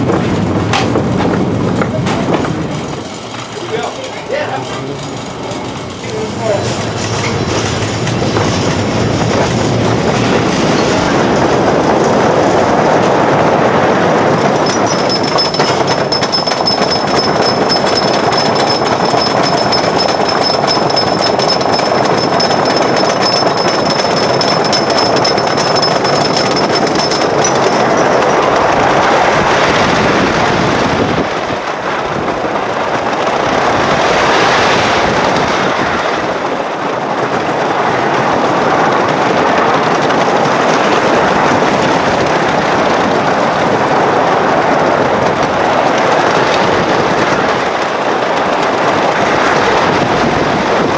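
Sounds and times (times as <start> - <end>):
roller coaster wheels rattling: 0.0 - 50.9.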